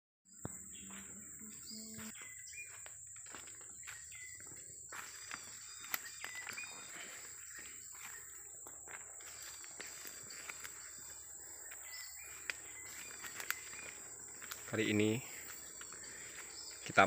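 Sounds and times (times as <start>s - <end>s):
birds chirping: 0.3s - 17.0s
high-pitched insect drone: 0.3s - 17.0s
footsteps crunching on dry leaves: 0.6s - 17.0s.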